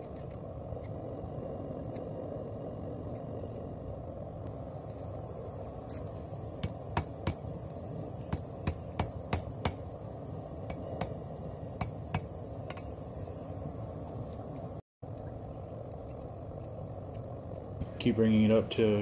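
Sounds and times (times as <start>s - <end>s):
low steady rush: 0.0s - 19.0s.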